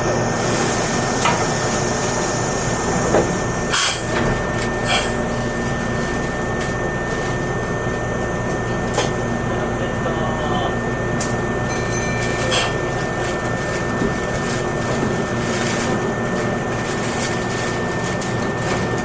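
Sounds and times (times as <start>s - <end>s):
train running inside car: 0.0s - 19.0s.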